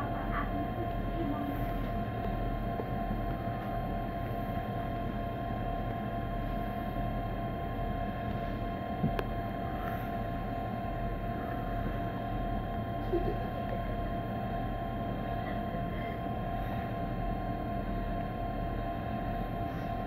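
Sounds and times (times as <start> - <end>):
electric train hum: 0.0 - 20.0.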